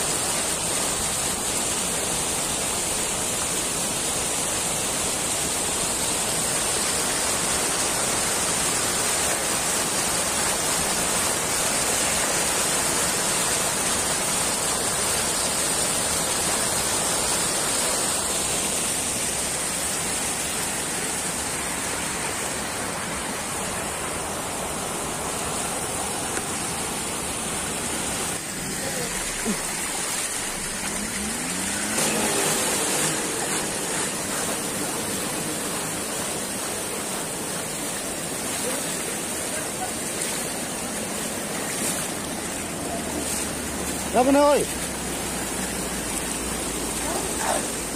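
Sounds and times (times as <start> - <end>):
floodwater rushing: 0.0 - 47.9.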